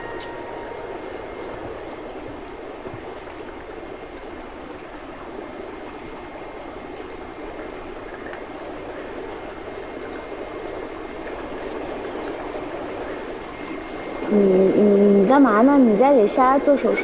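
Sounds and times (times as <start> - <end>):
water rushing through tanks: 0.0 - 17.0.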